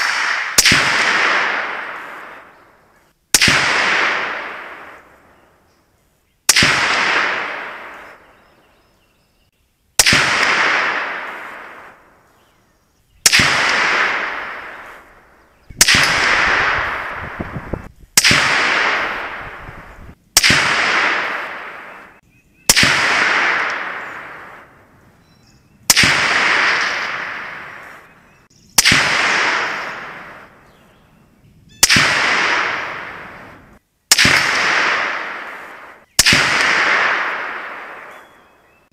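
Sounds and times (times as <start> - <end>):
rifle shots with echo: 0.0 - 5.5, 6.5 - 8.7, 10.0 - 12.3, 13.2 - 24.9, 25.8 - 28.2, 28.8 - 30.7, 31.8 - 38.8.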